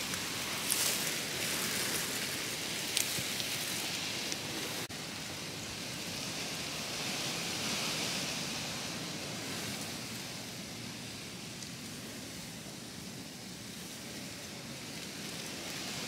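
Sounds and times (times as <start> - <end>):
rain-like hiss: 0.0 - 16.0.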